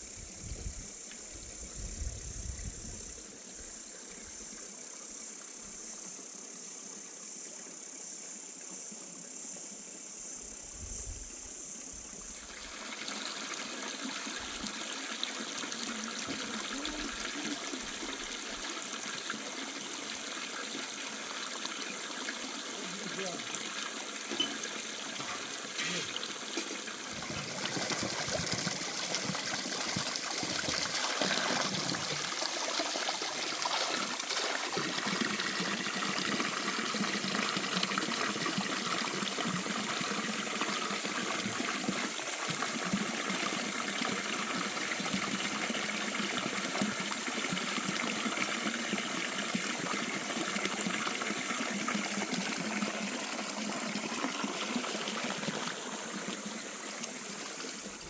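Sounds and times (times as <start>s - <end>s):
running water flowing: 8.6s - 58.0s.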